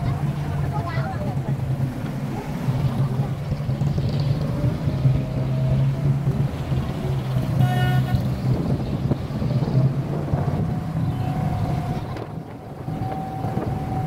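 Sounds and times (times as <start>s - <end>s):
boat diesel engine droning: 0.0s - 14.0s
wind on microphone: 2.2s - 14.0s.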